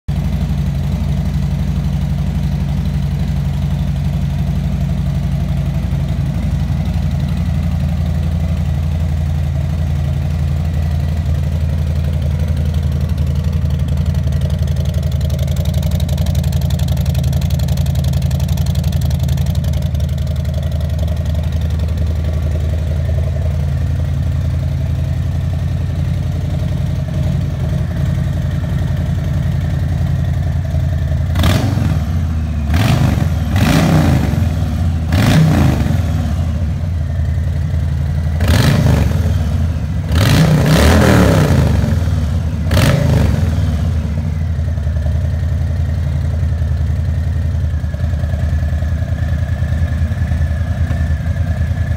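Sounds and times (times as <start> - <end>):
motorcycle engine idling: 0.1 - 51.9.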